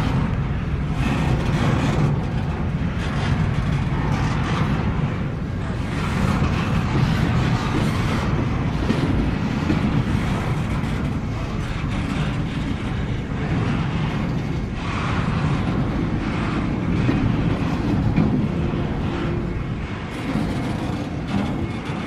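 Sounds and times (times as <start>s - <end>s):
train wheels on rail: 0.0s - 22.0s.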